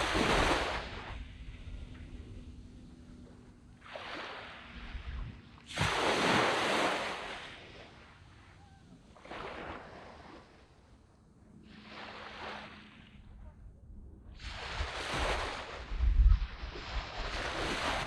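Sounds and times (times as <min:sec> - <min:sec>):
small waves washing onto sand: 0:00.0 - 0:11.0, 0:11.6 - 0:13.4, 0:14.3 - 0:18.0.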